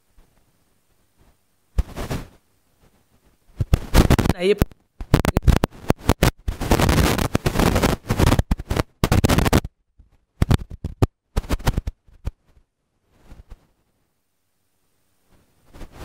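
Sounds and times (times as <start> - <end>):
harsh crackling static: 0.0 - 16.0.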